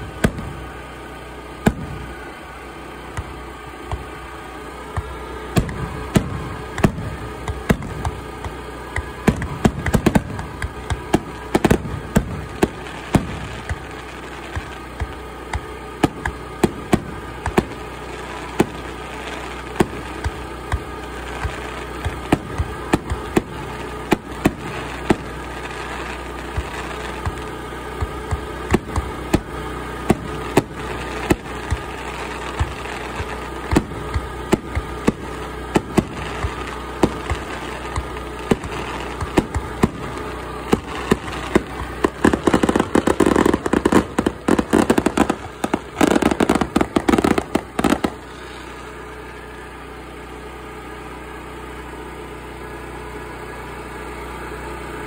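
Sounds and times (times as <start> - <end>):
fireworks bursting: 0.0 - 50.7.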